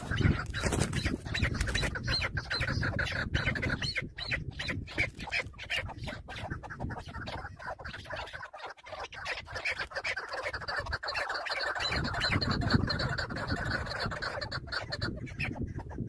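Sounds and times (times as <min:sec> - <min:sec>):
partridges clucking chatter: 0:00.0 - 0:16.0.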